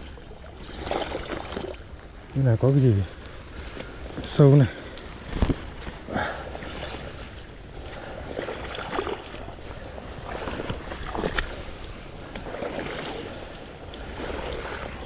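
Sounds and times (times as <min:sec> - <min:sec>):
water sloshing around wading legs: 0:00.0 - 0:15.0.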